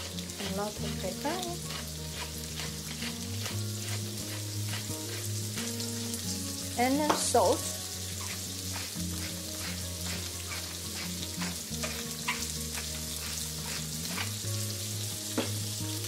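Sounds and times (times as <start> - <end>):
peppers sizzling in oil: 0.0 - 16.0.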